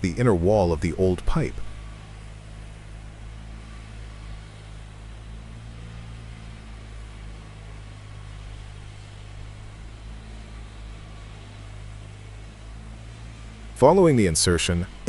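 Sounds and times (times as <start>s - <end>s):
even hiss: 0.0s - 15.0s
machine engine droning: 0.0s - 15.0s.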